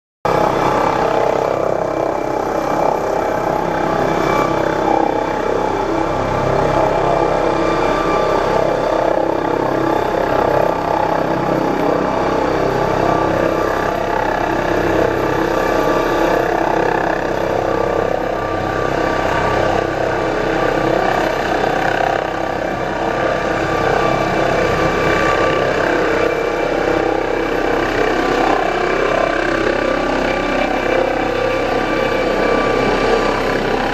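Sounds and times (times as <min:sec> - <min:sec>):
helicopter turbine whine: 0:00.3 - 0:33.9.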